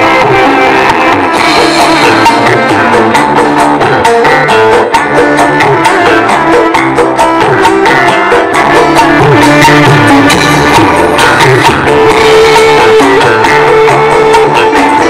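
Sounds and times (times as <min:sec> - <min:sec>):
music with a steady beat: 0:00.0 - 0:15.0.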